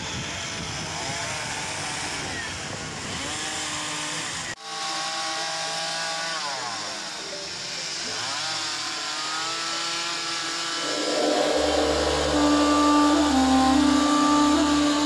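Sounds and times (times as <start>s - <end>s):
chainsaw carving wood: 0.0s - 15.0s.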